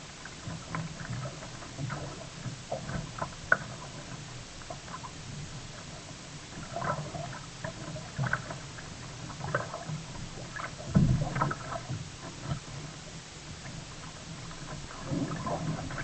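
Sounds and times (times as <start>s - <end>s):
paddle splashes and gurgles: 0.0s - 16.0s.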